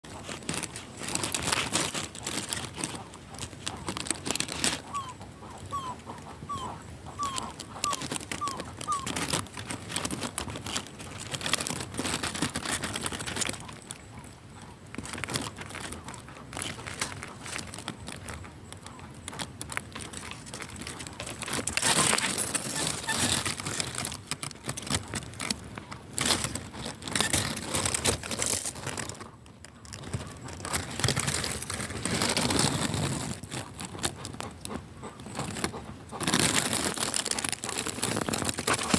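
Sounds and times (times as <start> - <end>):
crackling and rustling: 0.0 - 38.9.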